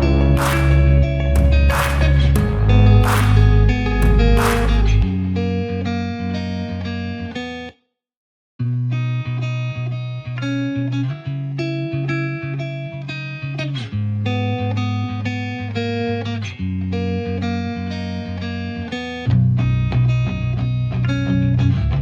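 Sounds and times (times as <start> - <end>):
plucked guitar with bass: 0.0 - 7.5, 8.6 - 22.0.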